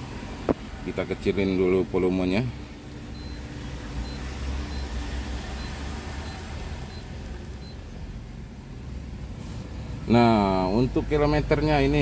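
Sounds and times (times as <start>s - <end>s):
low hum inside car cabin: 0.0s - 12.0s.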